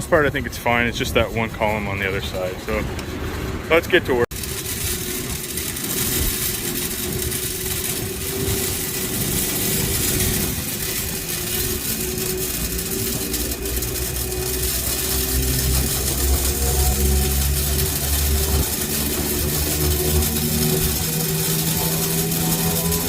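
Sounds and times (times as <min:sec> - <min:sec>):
grain dryer machinery humming: 0:00.0 - 0:23.0.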